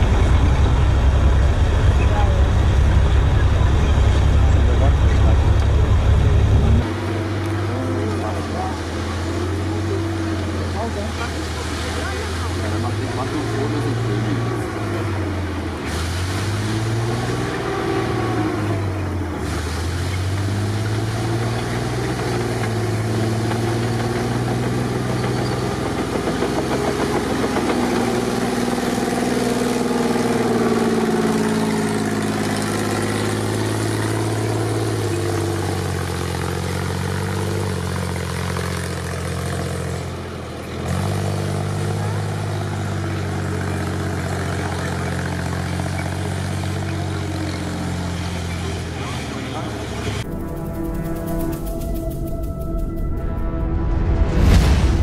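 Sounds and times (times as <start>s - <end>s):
tank engine running: 0.0s - 54.1s.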